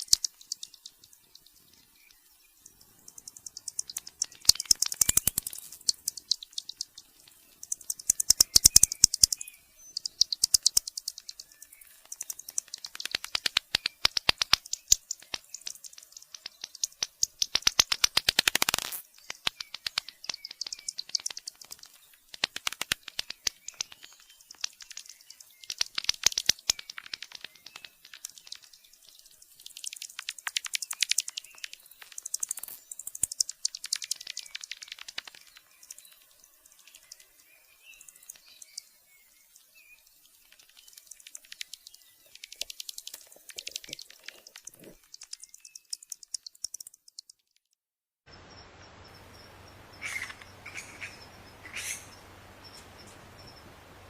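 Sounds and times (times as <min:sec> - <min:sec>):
steady hiss: 0:00.0 - 0:46.9, 0:48.3 - 0:54.0
bats clicking and chirping: 0:00.0 - 0:47.7, 0:48.5 - 0:53.8.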